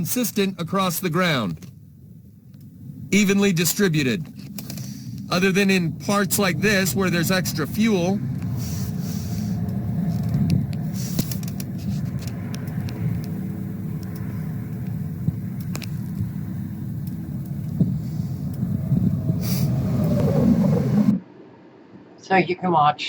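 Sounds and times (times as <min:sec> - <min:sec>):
car driving rumble: 0:00.0 - 0:21.2.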